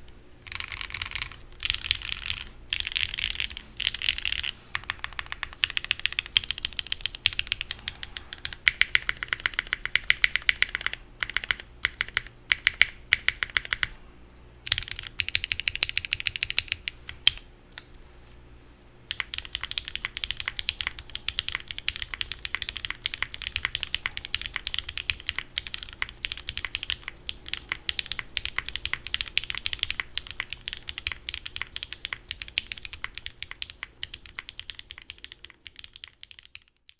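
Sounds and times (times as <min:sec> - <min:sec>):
fast typing on mechanical keyboard: 0:00.4 - 0:13.9, 0:14.7 - 0:17.0, 0:19.1 - 0:36.9.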